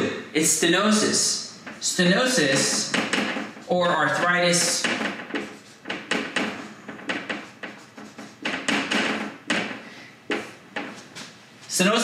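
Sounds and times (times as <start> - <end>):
marker writing on whiteboard: 0.8 - 11.9.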